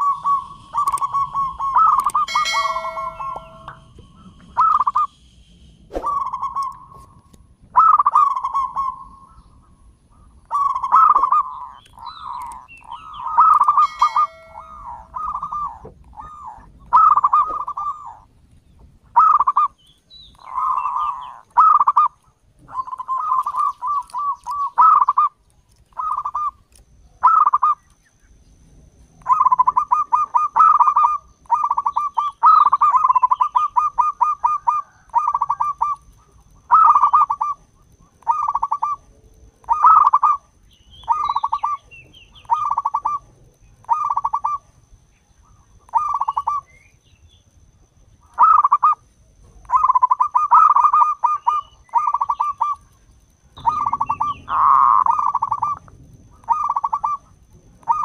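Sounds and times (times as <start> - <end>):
dove cooing: 0.0 - 5.1, 5.9 - 7.1, 7.7 - 9.4, 10.2 - 18.3, 19.1 - 19.8, 20.4 - 26.6, 27.2 - 27.8, 29.2 - 44.6, 45.5 - 46.7, 48.2 - 49.0, 49.6 - 52.9, 53.6 - 58.0.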